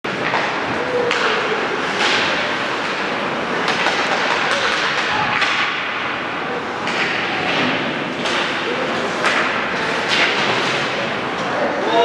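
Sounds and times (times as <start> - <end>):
sticks hitting puck: 0.1 - 6.0, 6.8 - 11.5.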